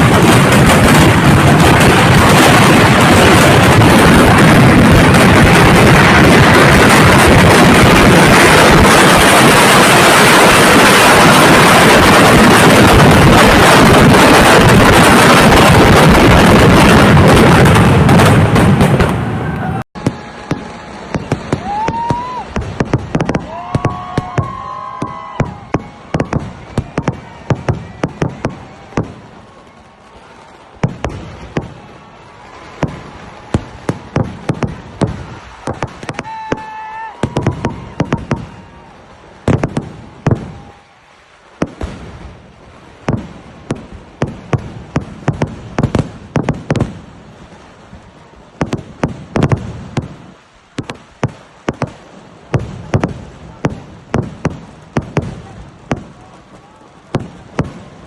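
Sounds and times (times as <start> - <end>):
firecracker bangs: 0.0 - 38.7, 39.4 - 40.8, 41.5 - 42.4, 43.0 - 47.2, 48.6 - 56.3, 57.1 - 58.0.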